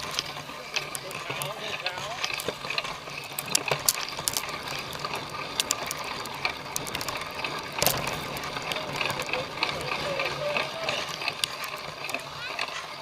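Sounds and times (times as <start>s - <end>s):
bike hub ratcheting: 0.0s - 13.0s.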